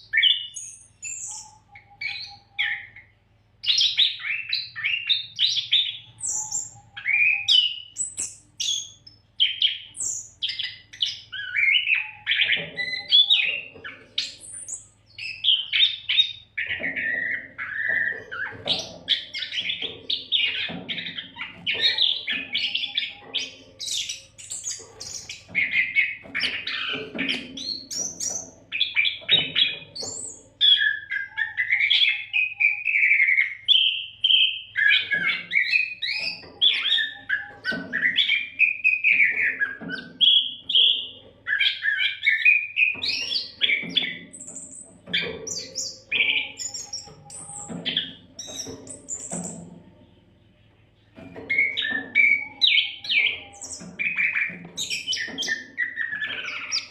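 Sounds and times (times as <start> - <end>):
bird singing whistles and chirps: 0.0 - 49.6, 51.2 - 56.9.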